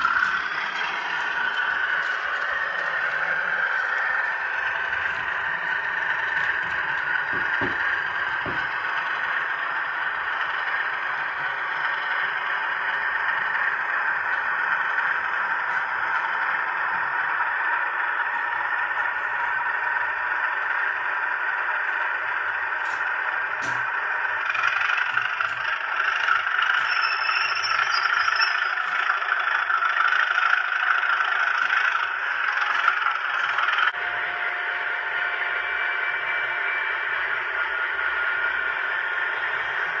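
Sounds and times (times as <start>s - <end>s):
model train whirring rattle: 0.0s - 40.0s.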